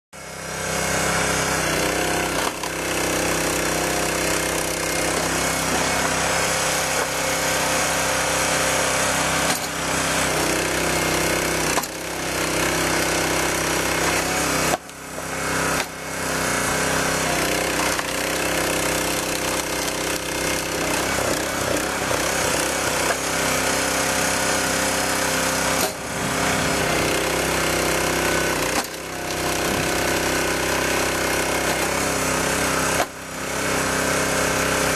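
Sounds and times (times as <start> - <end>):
log splitter engine running: 0.2 - 34.9.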